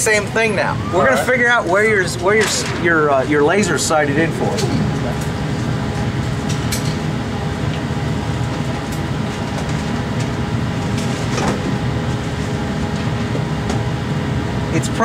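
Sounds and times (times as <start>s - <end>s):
ventilation rumble: 0.0s - 15.0s.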